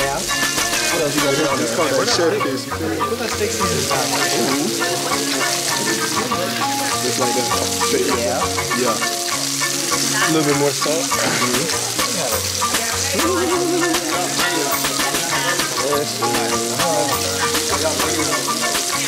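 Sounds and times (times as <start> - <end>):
burger patty sizzling in oil: 0.0 - 19.0.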